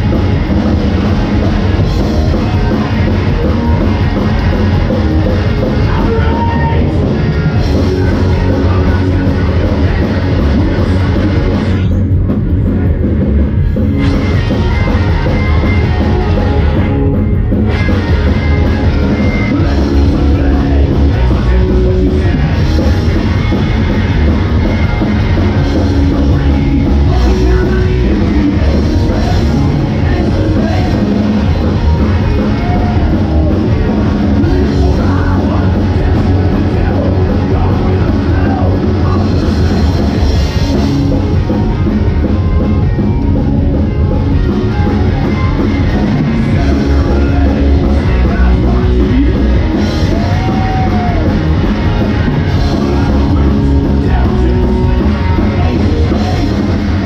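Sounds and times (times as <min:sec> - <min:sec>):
loud rock music with singing: 0:00.0 - 0:57.0.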